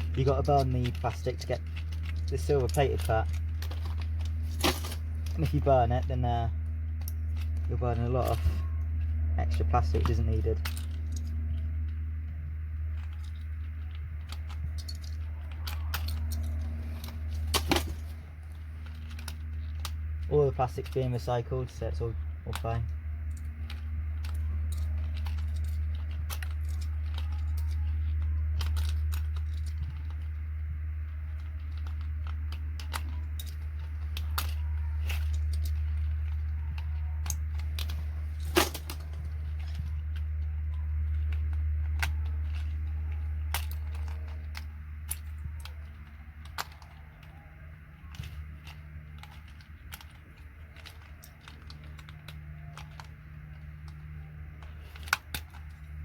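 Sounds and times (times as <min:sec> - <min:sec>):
keycaps clicking and snapping: 0:00.0 - 0:56.0
steady low hum: 0:00.0 - 0:56.0.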